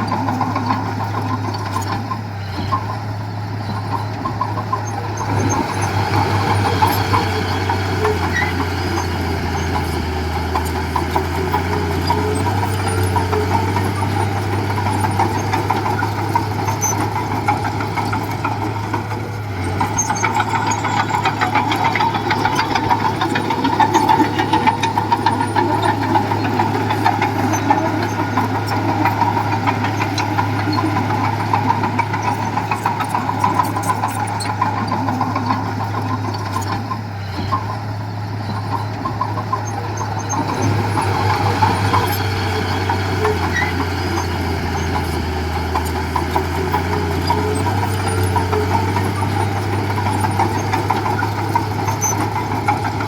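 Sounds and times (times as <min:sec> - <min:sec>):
heavy machinery diesel engine running: 0:00.0 - 0:53.0.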